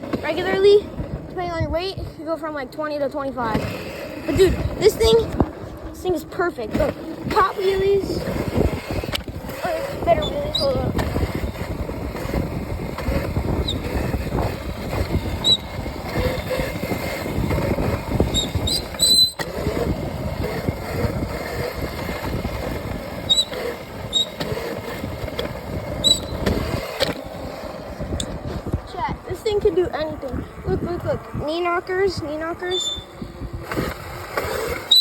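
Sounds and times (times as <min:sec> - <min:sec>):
faint electric motor whine: 0:00.0 - 0:35.0
wind rumbling on microphone: 0:00.0 - 0:35.0
tyre noise on dirt: 0:03.4 - 0:29.4, 0:32.2 - 0:35.0.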